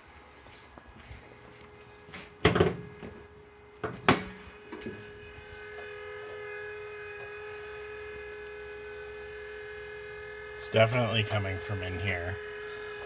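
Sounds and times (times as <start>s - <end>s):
electric whirring hum: 0.0s - 13.0s.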